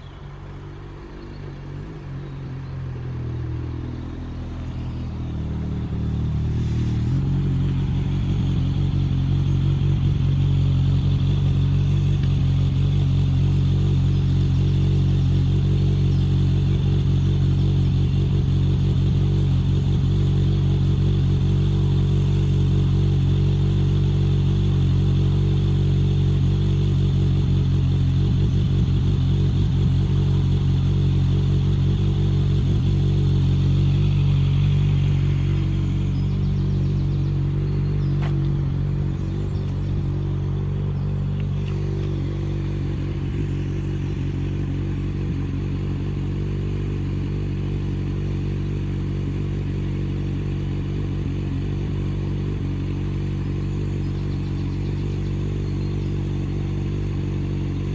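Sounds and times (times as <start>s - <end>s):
engine idling: 0.0s - 57.9s.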